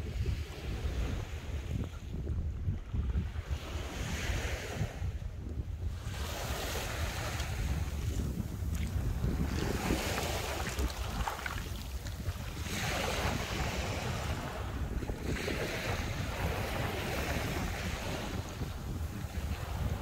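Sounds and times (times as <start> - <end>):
small waves washing on shore: 0.0 - 20.0
wind rumbling on microphone: 0.0 - 20.0.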